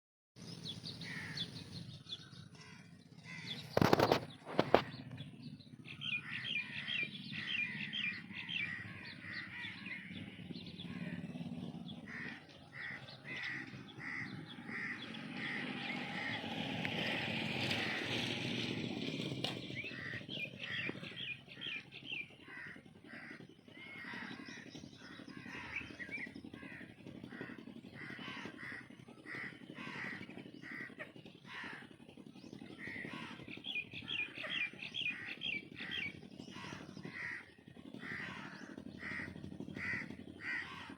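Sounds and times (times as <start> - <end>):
birds calling harsh notes: 0.4 - 40.9.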